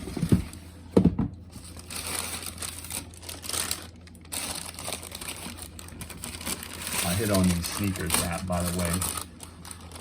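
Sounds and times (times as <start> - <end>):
packaging rustling and crinkling: 1.5 - 10.0.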